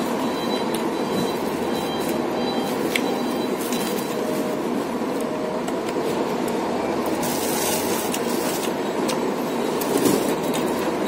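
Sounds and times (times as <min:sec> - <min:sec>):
loud background rumble: 0:00.0 - 0:11.0.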